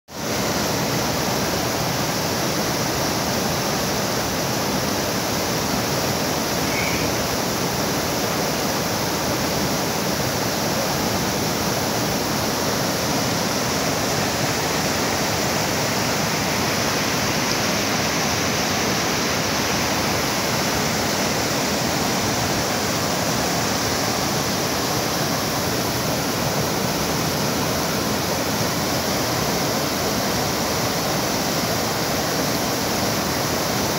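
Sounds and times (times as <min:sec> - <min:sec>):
waterfall crashing: 0:00.1 - 0:33.9.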